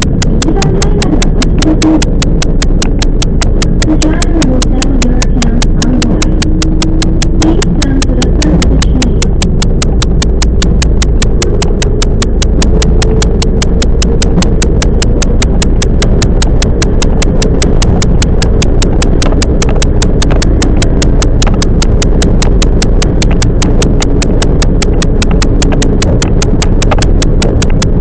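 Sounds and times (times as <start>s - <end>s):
electric train rumbling: 0.0s - 28.0s
rapid even ticking: 0.0s - 28.0s.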